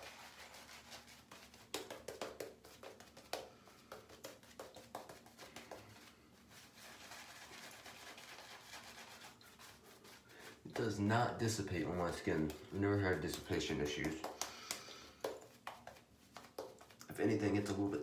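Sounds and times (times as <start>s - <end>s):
shaving brush wet brushing: 0.0s - 18.0s.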